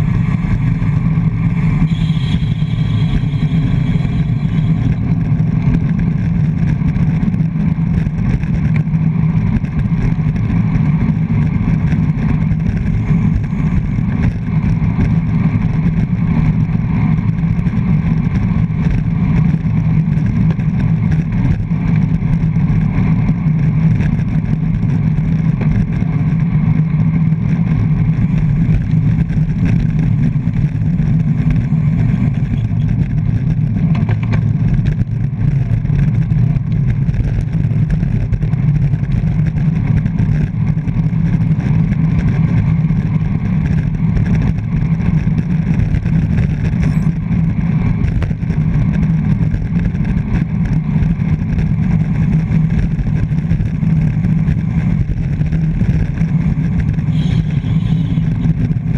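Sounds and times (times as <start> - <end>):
wind rumble on microphone: 0.0 - 58.9.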